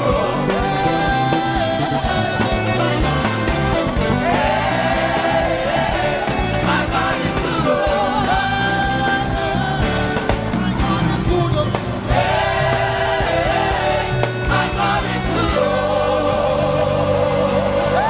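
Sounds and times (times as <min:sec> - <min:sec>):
choir singing: 0:00.0 - 0:10.5, 0:11.3 - 0:18.0
live band with drums: 0:00.0 - 0:18.0.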